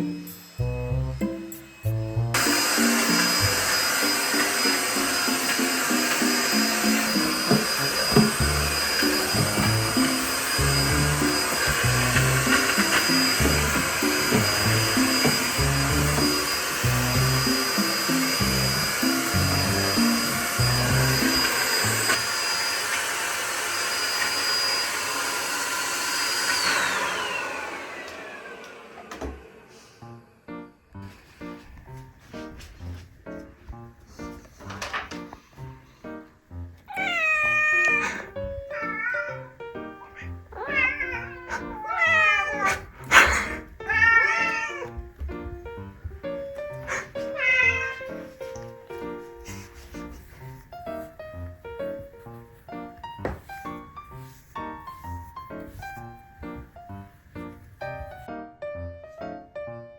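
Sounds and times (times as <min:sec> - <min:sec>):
vacuum cleaner running: 0:00.0 - 0:32.3, 0:36.8 - 0:58.3.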